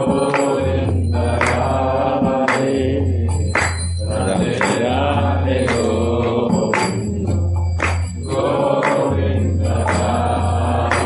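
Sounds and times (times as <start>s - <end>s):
voices chanting: 0.0s - 3.3s, 4.1s - 7.3s, 8.2s - 11.0s
sharp percussive strikes: 0.0s - 11.0s.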